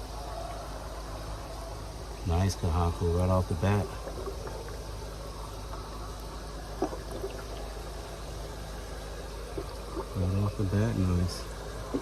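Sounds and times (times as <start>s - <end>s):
low continuous hum: 0.0s - 12.0s
water trickling and bubbling: 0.0s - 12.0s.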